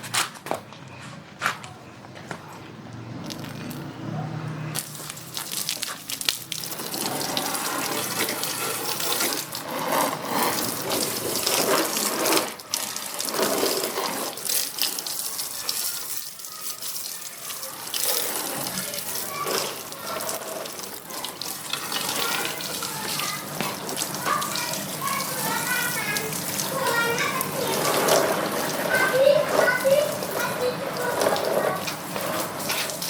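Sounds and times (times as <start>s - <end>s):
water splashing on motorcycle: 2.9s - 33.0s.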